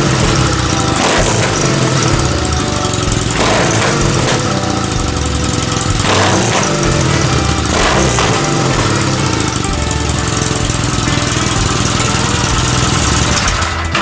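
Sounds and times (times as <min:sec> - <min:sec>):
heavy rushing hiss: 0:00.0 - 0:14.0
motorcycle engine running: 0:00.0 - 0:14.0.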